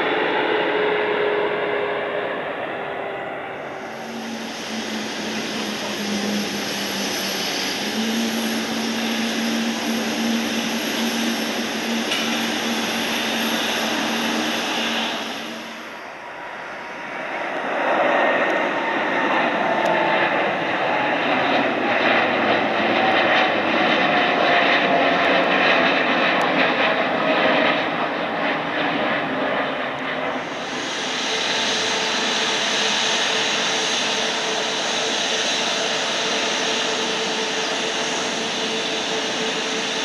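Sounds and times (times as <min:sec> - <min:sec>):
jet engine whine taxiing: 0:00.0 - 0:40.0
jet engines climbing out: 0:00.0 - 0:40.0.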